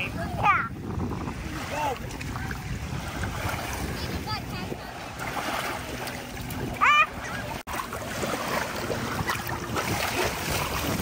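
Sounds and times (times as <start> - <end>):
surf lapping on beach: 0.0 - 11.0
wind on microphone: 0.0 - 11.0.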